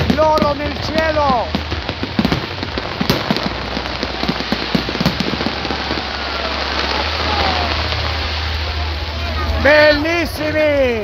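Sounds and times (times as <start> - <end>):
loud firework bangs: 0.0 - 10.8
fireworks crackling: 0.0 - 11.0.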